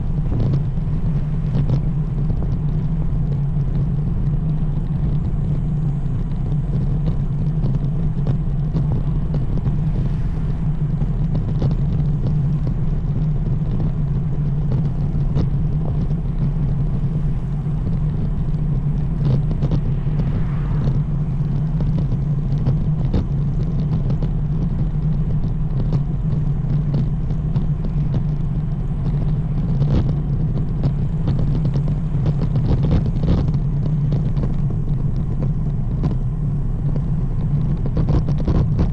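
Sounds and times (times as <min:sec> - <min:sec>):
knocks and rattles from road: 0:00.0 - 0:38.9
wind and road noise: 0:00.0 - 0:38.9.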